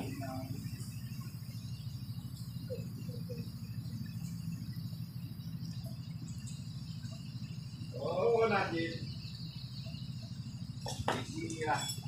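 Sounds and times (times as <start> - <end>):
insect chirring: 0.0 - 12.0
low background hum: 0.0 - 12.0.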